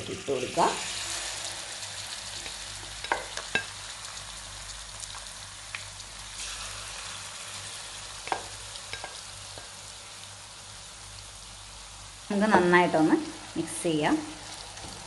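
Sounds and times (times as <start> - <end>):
prawns sizzling in frying pan: 0.0 - 15.0.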